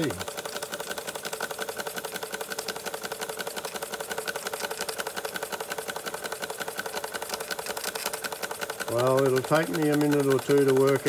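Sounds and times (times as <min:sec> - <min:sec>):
toy steam engine running fast: 0:00.0 - 0:11.0.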